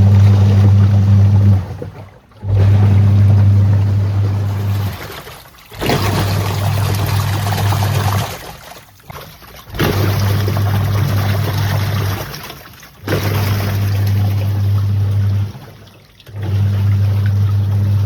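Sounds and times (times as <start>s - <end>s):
washing machine motor humming: 0.0s - 18.0s
water churning and sloshing: 0.0s - 18.0s.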